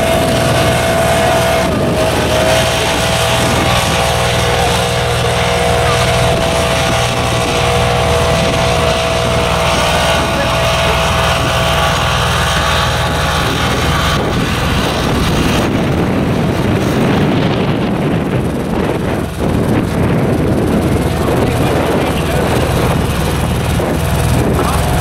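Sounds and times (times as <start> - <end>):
asphalt roller engine running: 0.0 - 25.0.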